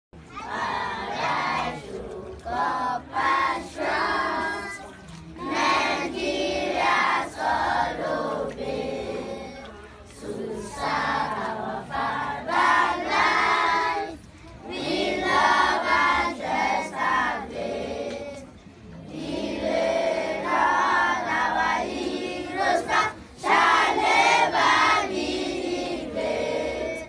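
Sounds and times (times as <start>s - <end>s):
children singing in unison: 0.4s - 18.4s, 19.1s - 27.0s.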